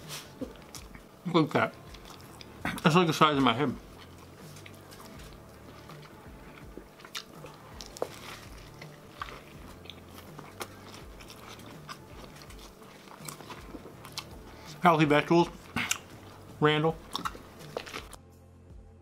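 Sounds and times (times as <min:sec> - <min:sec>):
man biting and chewing: 0:00.3 - 0:01.1, 0:01.8 - 0:02.8, 0:03.8 - 0:14.8, 0:15.5 - 0:18.2.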